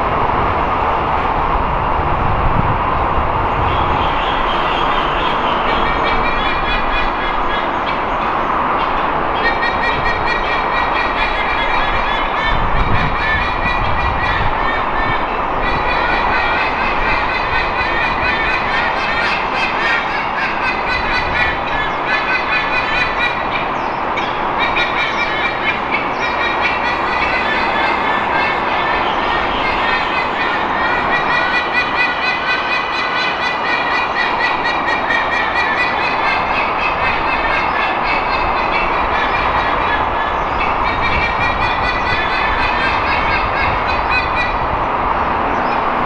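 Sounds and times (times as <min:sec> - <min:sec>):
expressway traffic roar: 0:00.0 - 0:46.0
eagles honking calls: 0:03.6 - 0:44.8.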